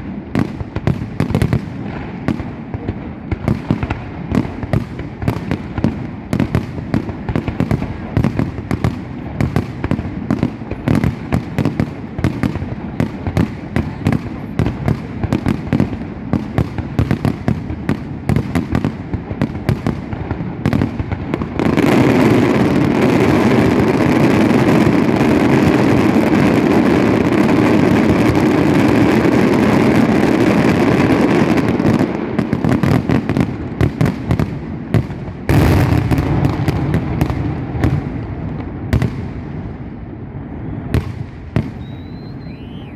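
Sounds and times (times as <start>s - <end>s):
fireworks and firecrackers banging: 0.0s - 42.9s.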